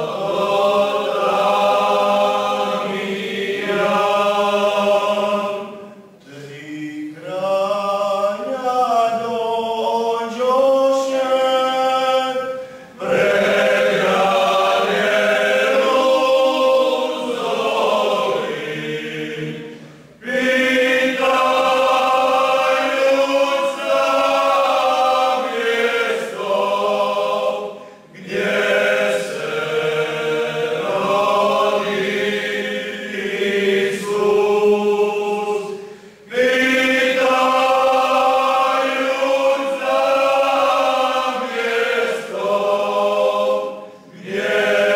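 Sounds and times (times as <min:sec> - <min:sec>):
male choir singing in harmony: 0:00.0 - 0:44.9.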